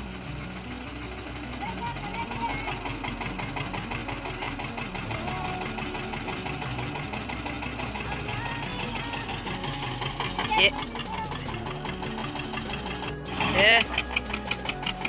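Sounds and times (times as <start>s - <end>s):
diesel tractor engine chugging: 0.0s - 15.0s.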